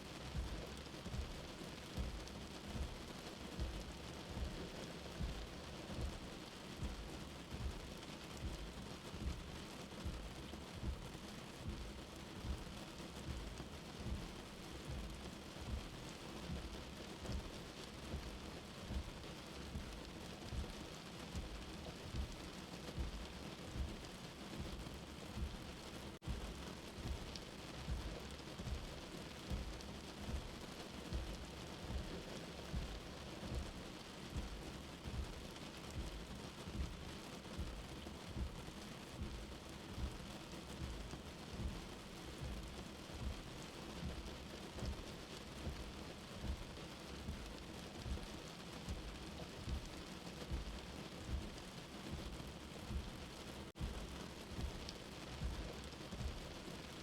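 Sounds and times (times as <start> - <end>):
steady rain: 0.0 - 57.0
soft low heartbeat thump: 0.3 - 56.8.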